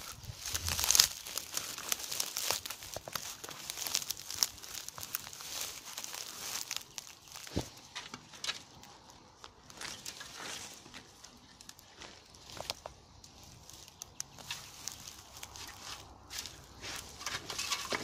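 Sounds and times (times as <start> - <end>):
dry grass rustling and crackling: 0.0 - 18.0.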